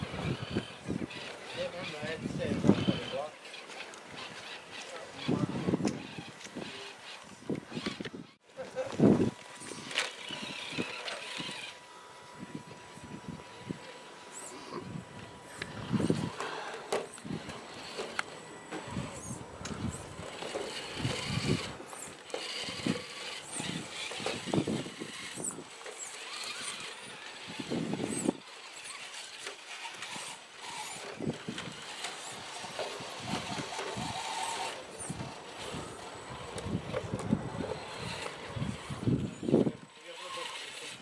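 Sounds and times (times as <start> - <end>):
electric motor and gearbox whining: 0.0 - 41.0.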